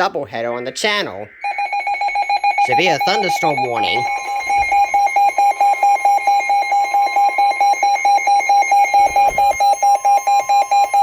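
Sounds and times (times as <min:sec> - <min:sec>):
rapid alarm beeping: 0:00.0 - 0:11.0
steady high alarm tone: 0:00.0 - 0:11.0.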